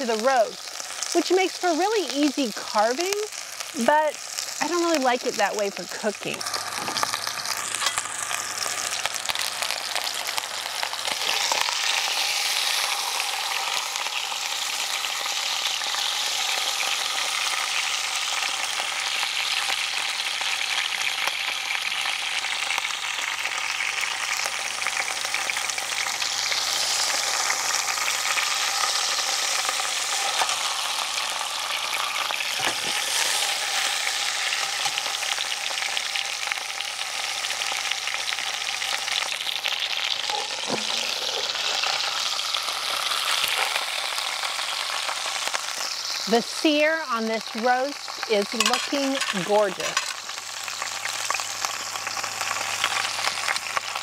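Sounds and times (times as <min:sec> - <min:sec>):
fat sizzling and crackling: 0:00.0 - 0:54.0.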